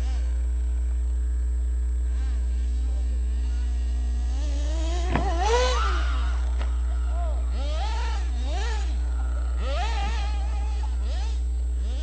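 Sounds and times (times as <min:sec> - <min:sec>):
rc car motor whining: 0:00.0 - 0:12.0
steady low hum: 0:00.0 - 0:12.0.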